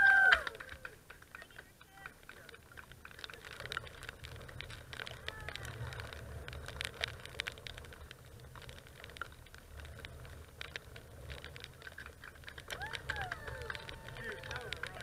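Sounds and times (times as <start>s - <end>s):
drops ticking nearby: 0.0s - 15.0s
low steady rumble: 0.0s - 15.0s
rain pattering: 0.0s - 15.0s.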